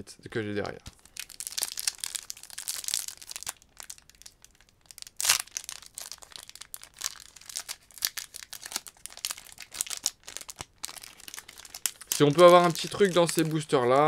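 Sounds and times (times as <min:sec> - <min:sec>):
foil wrapper crinkling and tearing: 0:00.9 - 0:14.0.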